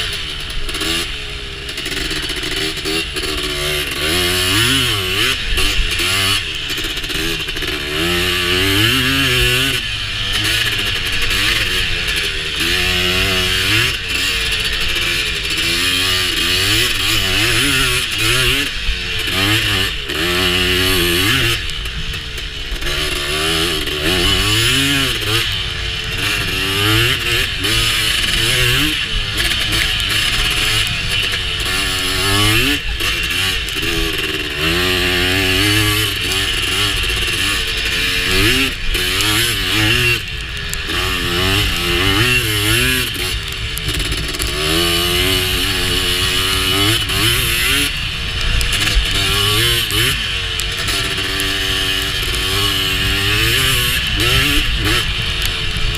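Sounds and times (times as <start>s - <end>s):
two-stroke engine revving: 0.0s - 55.9s.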